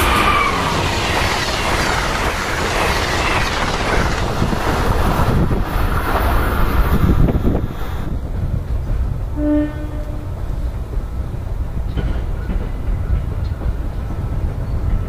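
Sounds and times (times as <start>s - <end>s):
low train rumble: 0.0s - 15.0s
passenger train rushing past: 0.0s - 15.0s.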